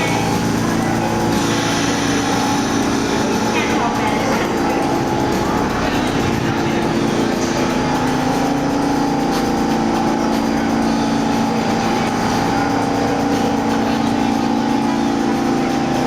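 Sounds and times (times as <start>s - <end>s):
constant hum: 0.0s - 16.0s
subway train rumbling drone: 0.0s - 16.0s.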